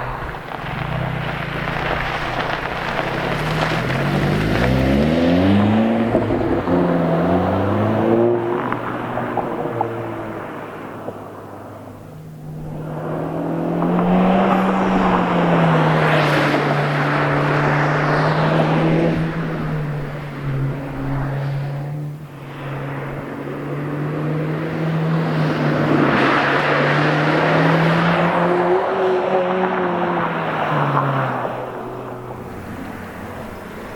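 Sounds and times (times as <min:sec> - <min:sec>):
car engine and exhaust driving past: 0:00.0 - 0:33.9.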